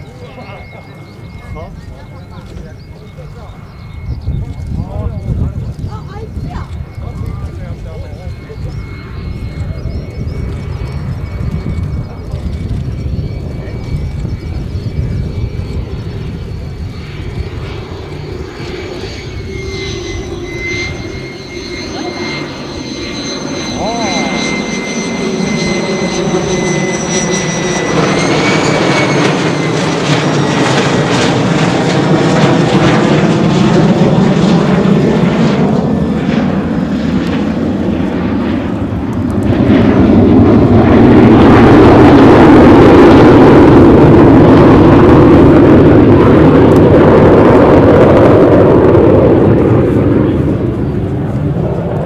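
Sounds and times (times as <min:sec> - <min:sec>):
high jet whine: 0:00.0 - 0:52.0
jet engine flypast: 0:00.0 - 0:52.0.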